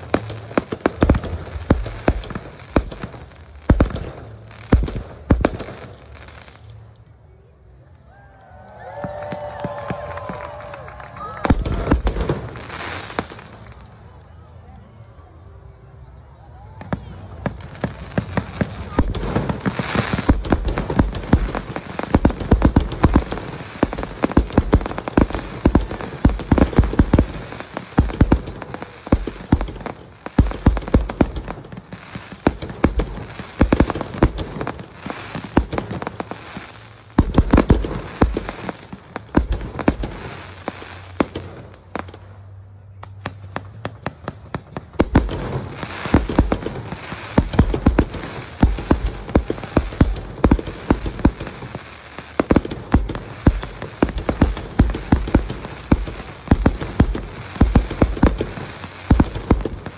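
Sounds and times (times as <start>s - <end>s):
fireworks booms: 0.0s - 6.0s, 11.4s - 13.8s, 16.8s - 42.2s, 43.1s - 59.9s
fireworks crackling: 0.0s - 7.5s, 8.2s - 15.2s, 16.5s - 59.9s.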